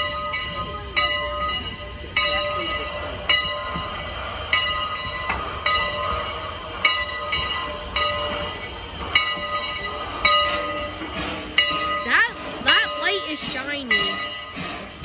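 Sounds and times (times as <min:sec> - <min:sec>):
locomotive bell ringing: 0:00.0 - 0:15.0
low rumble of locomotive: 0:00.0 - 0:15.0.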